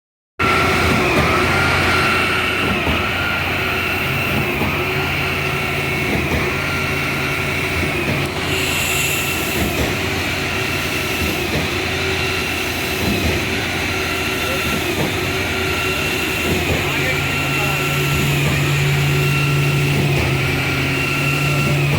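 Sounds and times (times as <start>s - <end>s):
low machinery hum: 0.4s - 21.9s
machinery whine: 0.4s - 21.9s.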